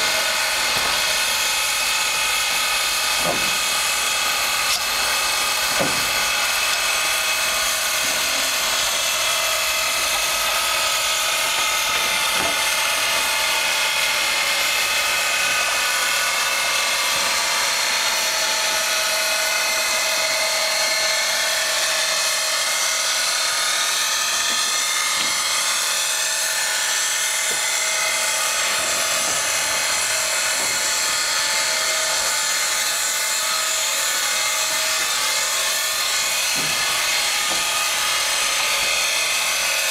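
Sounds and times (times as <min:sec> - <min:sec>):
steam locomotive whine and hiss: 0:00.0 - 0:39.9.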